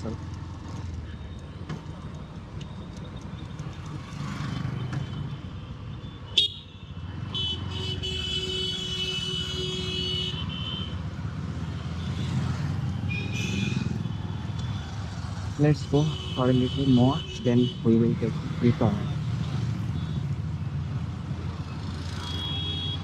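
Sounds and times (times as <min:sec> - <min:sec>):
motorcycle engine in traffic: 0:00.0 - 0:23.0
road rumble: 0:00.0 - 0:23.0.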